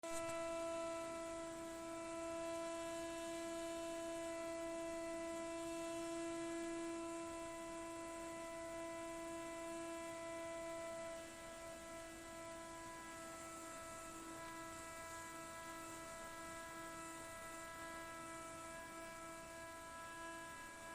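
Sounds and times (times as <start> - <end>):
gas boiler humming: 0.0 - 20.9.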